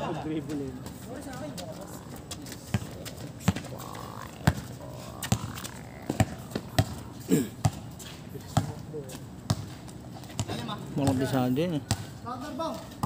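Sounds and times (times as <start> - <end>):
basketball bouncing on concrete: 0.8 - 13.0.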